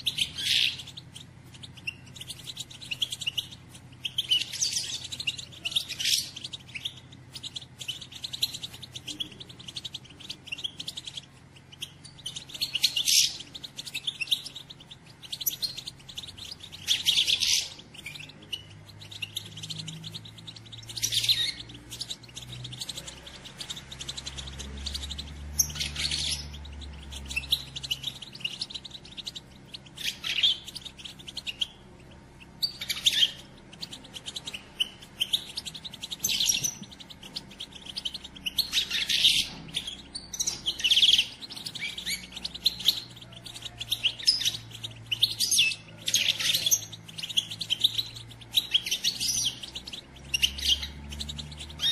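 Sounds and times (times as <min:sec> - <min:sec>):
finches twittering: 0:00.0 - 0:51.9.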